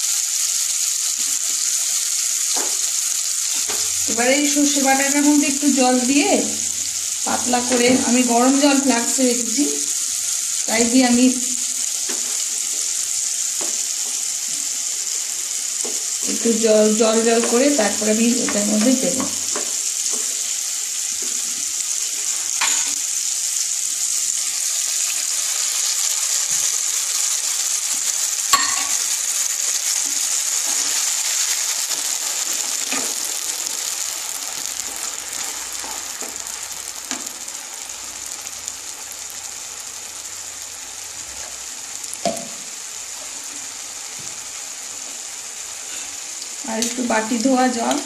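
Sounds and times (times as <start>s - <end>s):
vegetables sizzling in a frying pan: 0.0s - 48.0s.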